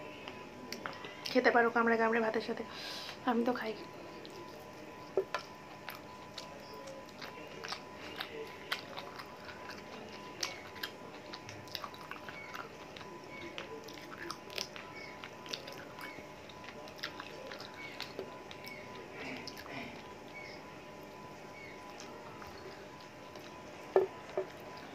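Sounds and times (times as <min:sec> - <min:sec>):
close chewing and biting: 0:03.8 - 0:24.9.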